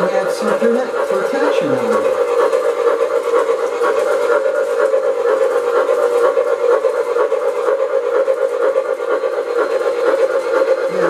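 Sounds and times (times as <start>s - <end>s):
model train hum: 0.0s - 11.0s.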